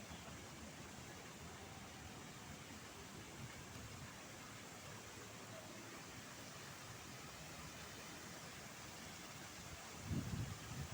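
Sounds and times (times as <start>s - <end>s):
faint steady hiss: 0.0s - 10.9s.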